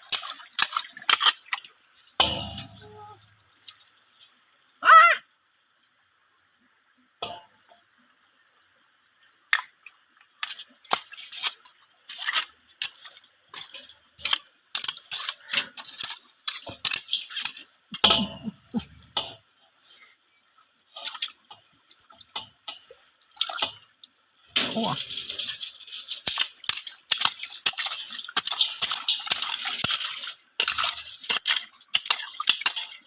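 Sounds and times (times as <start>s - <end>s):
water splashing and dripping: 0.0s - 5.1s, 7.2s - 33.0s.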